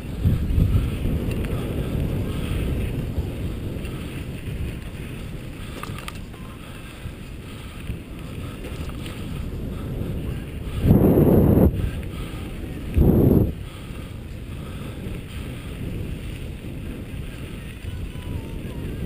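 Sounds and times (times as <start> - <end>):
bike rolling over dirt trail: 0.0 - 19.0
wind buffeting microphone: 0.0 - 19.0.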